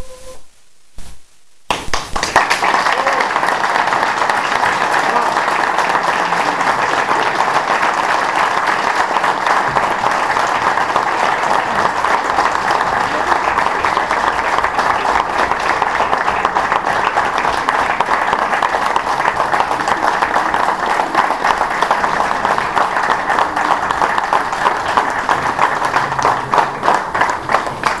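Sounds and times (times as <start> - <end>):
audience applauding: 1.7 - 28.0.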